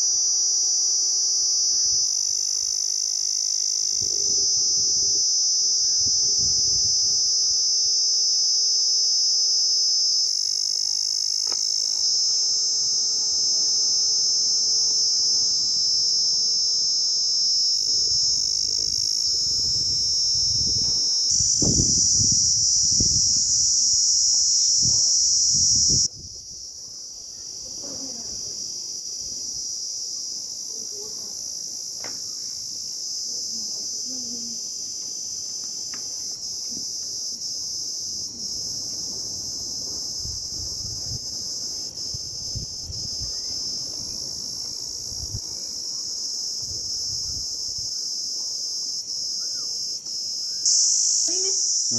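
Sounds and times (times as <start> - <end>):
cicadas buzzing: 0.0 - 51.9.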